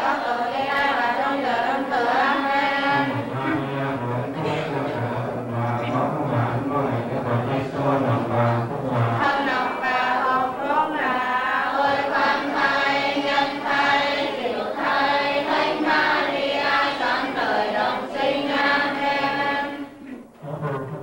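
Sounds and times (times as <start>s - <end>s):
choir singing a slow hymn: 0.0s - 20.3s.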